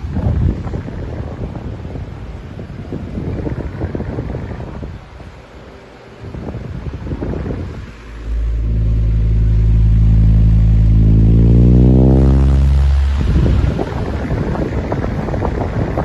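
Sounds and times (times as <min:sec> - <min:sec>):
fan low drone: 0:00.0 - 0:16.0
fan wind noise: 0:00.0 - 0:16.0.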